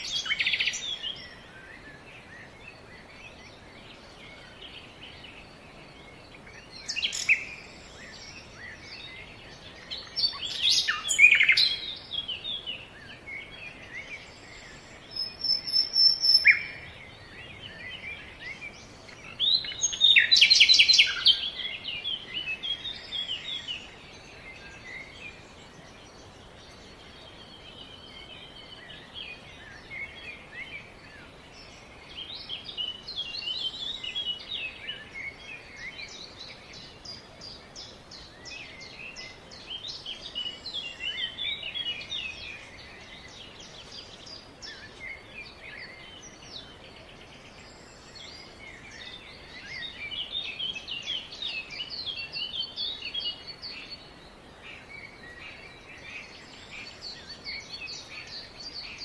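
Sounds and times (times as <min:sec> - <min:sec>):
background hiss: 0:00.0 - 0:59.0
birds calling and chirping: 0:00.0 - 0:59.0.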